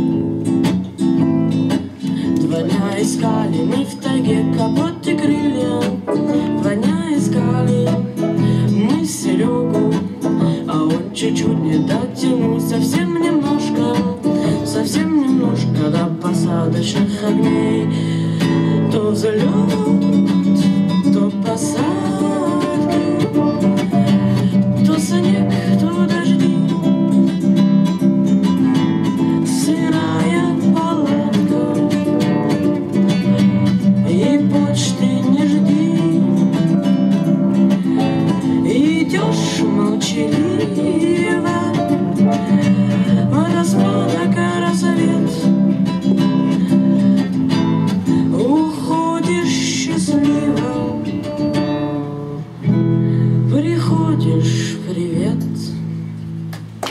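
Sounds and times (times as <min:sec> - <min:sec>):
acoustic guitar strumming chords: 0:00.0 - 0:56.8
person singing: 0:01.8 - 0:27.5, 0:28.5 - 0:47.0, 0:47.9 - 0:51.6, 0:53.4 - 0:55.8.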